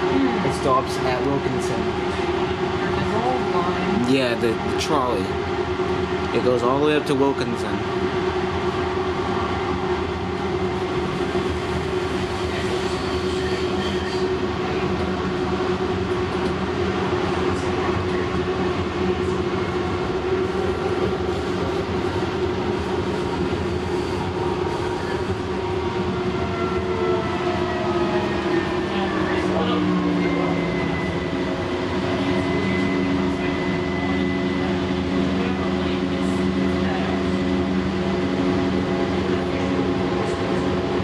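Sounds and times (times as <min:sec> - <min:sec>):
light rail car rolling rumble: 0:07.8 - 0:41.0.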